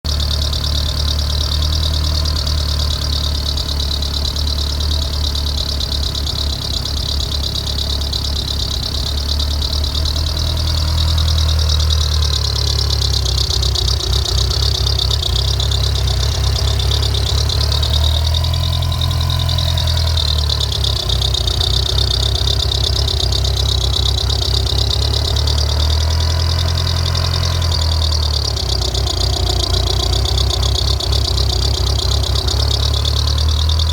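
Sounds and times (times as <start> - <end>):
car engine idling: 0.0 - 33.9
high-pitched belt squeal: 0.4 - 33.9.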